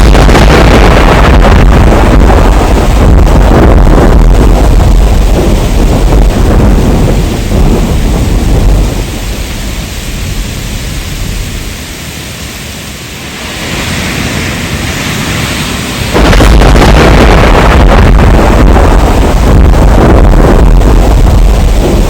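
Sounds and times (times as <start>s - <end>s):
rain hissing: 0.0s - 22.0s
thunder rumbling: 0.0s - 22.0s.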